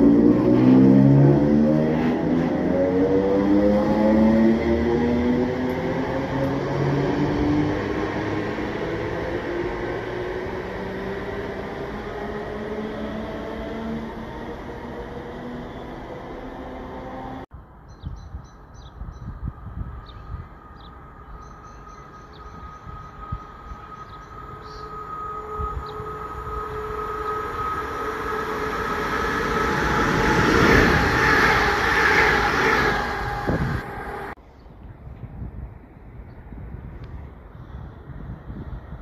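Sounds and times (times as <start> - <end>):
electric train approaching: 0.0 - 17.5, 19.2 - 34.4.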